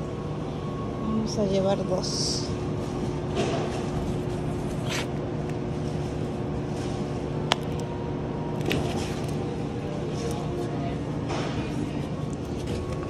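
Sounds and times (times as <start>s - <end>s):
refrigerated display case humming: 0.0s - 13.0s.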